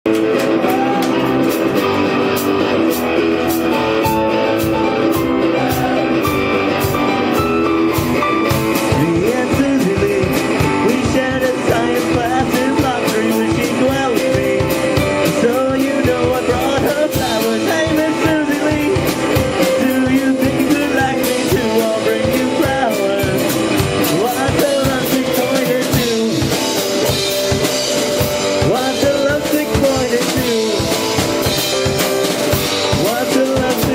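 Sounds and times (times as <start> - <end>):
live rock and roll band: 0.0 - 33.9
person singing: 0.1 - 7.7, 8.5 - 27.2, 28.4 - 31.6, 32.6 - 33.9
steady drum beat: 0.1 - 33.9.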